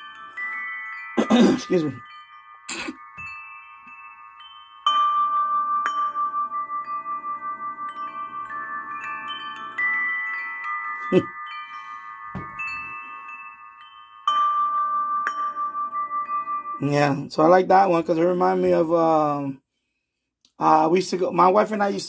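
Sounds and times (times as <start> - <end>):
wind chimes through speaker: 0.0 - 19.6, 20.6 - 22.0.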